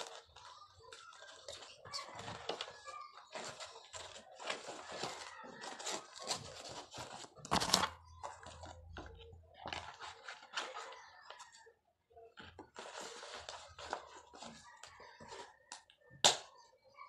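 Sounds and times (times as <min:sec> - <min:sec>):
rustling and crinkling handling: 0:00.0 - 0:11.7, 0:12.3 - 0:16.0.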